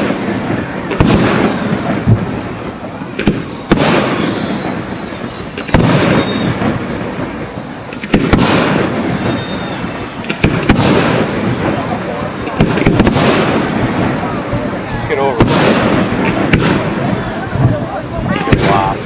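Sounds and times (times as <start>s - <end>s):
fireworks bangs with echo: 0.0s - 19.0s.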